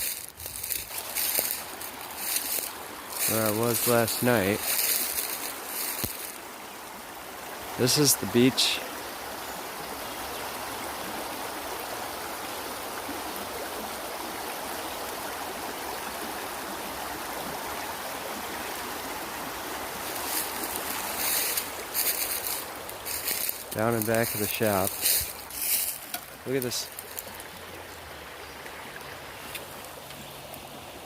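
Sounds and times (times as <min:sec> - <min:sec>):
creek water over rocks: 0:00.0 - 0:31.0.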